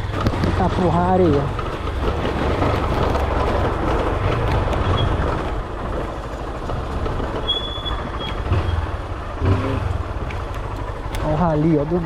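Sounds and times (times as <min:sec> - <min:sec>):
bike rattling over rough ground: 0:00.0 - 0:12.0
motorcycle engine rumble: 0:00.0 - 0:12.0
wind and road noise: 0:00.0 - 0:12.0.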